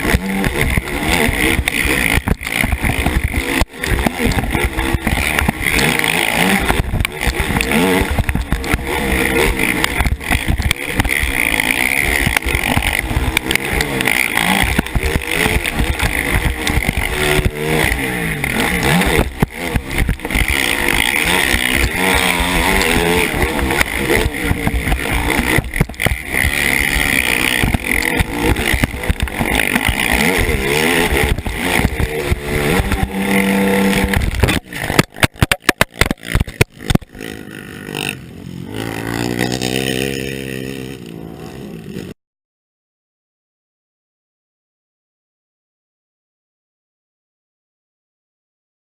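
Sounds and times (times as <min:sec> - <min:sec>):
motorcycle engine revving: 0:00.0 - 0:42.2.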